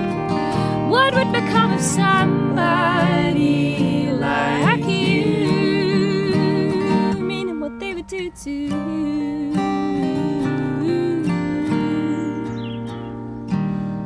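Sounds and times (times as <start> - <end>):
acoustic guitars strumming: 0.0 - 14.0
person singing with vibrato: 0.6 - 12.9.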